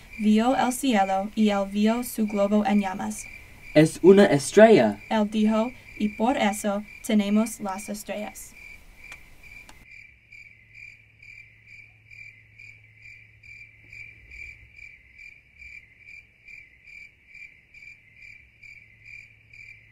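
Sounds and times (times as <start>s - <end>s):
crickets chirping: 0.0s - 19.9s.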